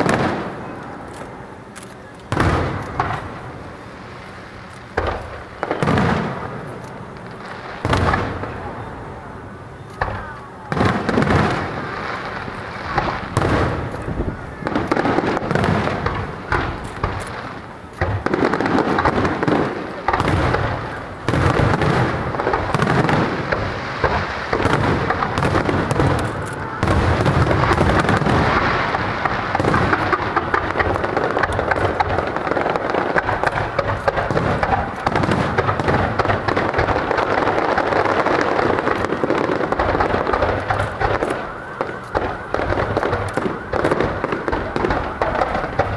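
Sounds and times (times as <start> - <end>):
fireworks booming and crackling: 0.0 - 45.9.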